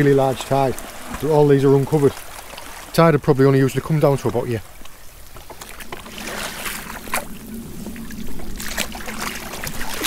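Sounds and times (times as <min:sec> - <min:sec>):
seawater sloshing and trickling: 0:00.0 - 0:10.0
small water splashes: 0:00.0 - 0:10.0.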